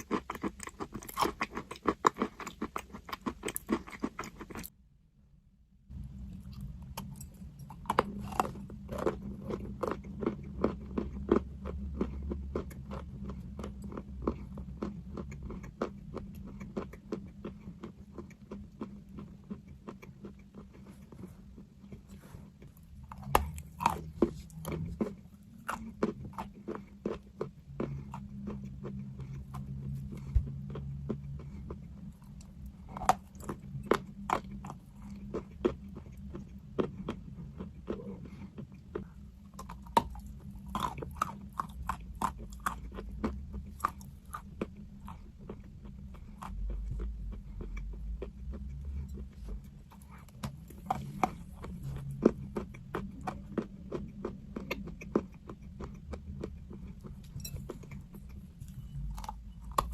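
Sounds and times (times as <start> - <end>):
chewing crunchy chalk: 0.0 - 4.7, 6.4 - 59.9
steady low hum: 0.0 - 59.9.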